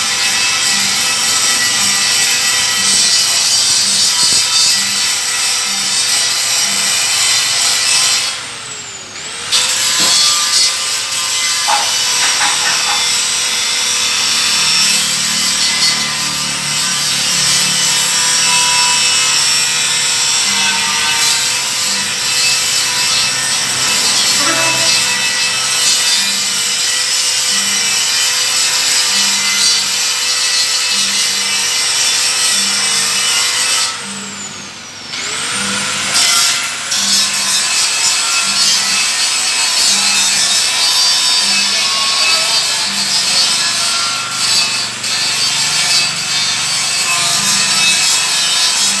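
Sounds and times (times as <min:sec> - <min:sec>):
angle grinder grinding steel: 0:00.0 - 0:49.0.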